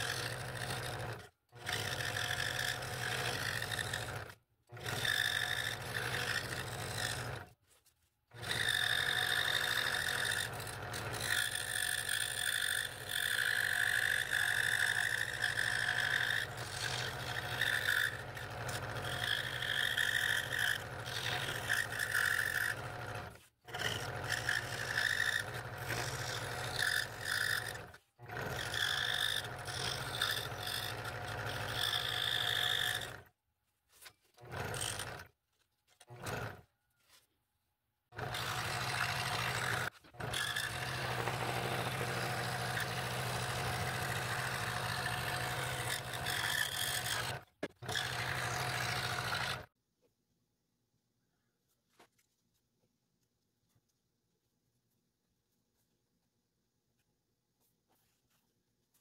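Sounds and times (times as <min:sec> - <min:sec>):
scroll saw cutting wood: 0:00.0 - 0:37.4, 0:38.1 - 0:49.8.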